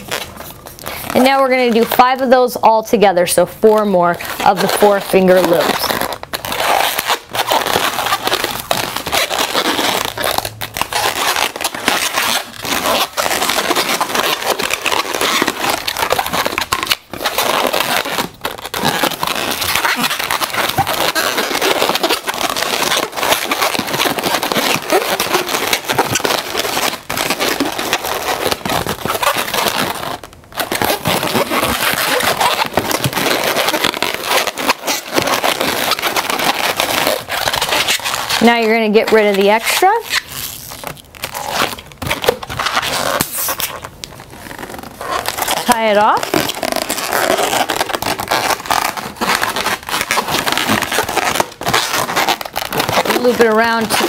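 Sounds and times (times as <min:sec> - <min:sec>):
latex balloon being twisted: 0:00.0 - 0:02.9, 0:03.6 - 0:54.0.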